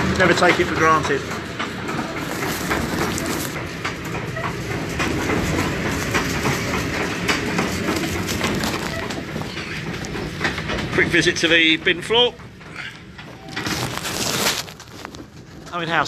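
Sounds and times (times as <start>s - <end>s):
windmill millstones rumbling: 0.0s - 16.0s
wooden gearing clattering knocks: 0.4s - 14.0s.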